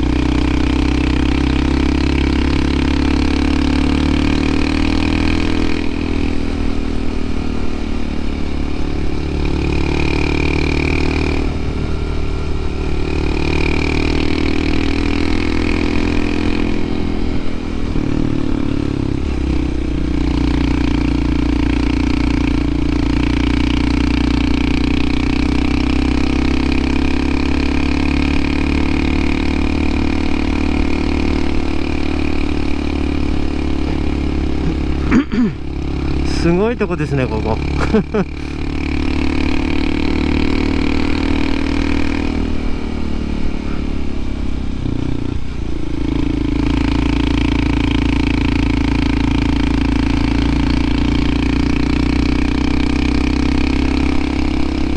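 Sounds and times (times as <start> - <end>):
motorcycle engine under load: 0.0 - 54.9.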